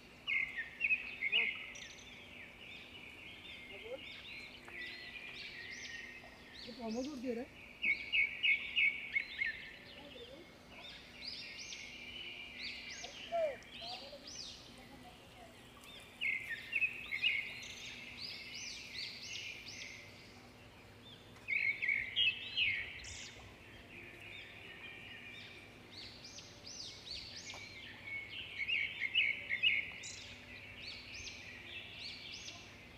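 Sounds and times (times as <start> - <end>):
faint outdoor background: 0.0 - 32.9
songbirds chirping and singing: 0.0 - 32.9.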